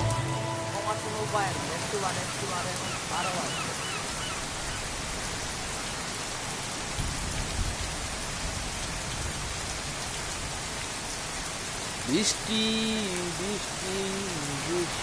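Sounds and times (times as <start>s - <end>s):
heavy rain on standing water: 0.0s - 15.0s.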